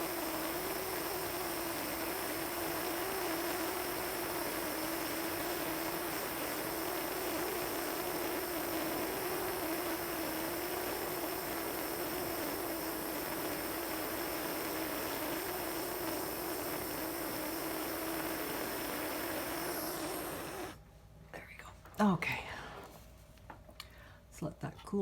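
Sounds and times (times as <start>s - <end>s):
torch flame hissing: 0.0s - 20.8s.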